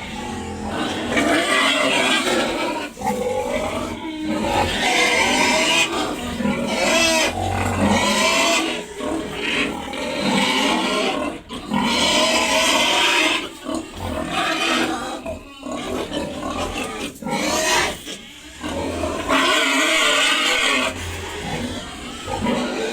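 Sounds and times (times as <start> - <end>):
pigs squealing loudly: 0.0 - 22.9.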